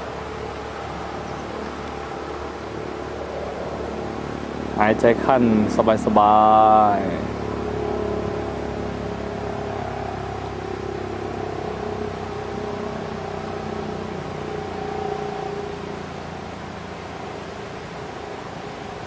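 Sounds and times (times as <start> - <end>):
motor humming and whining: 0.0 - 19.0.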